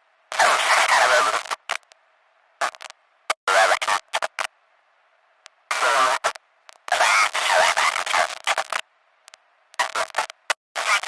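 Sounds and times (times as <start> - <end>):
television static hiss: 0.0 - 11.0.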